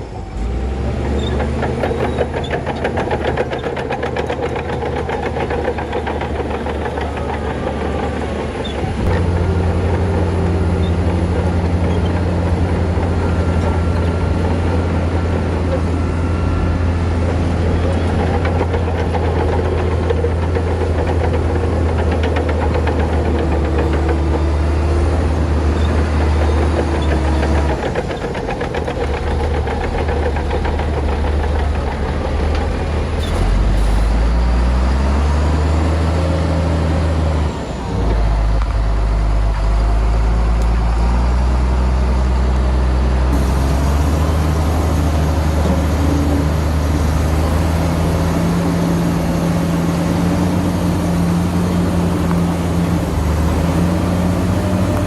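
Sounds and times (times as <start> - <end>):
heavy diesel engine revving: 0.0 - 55.0.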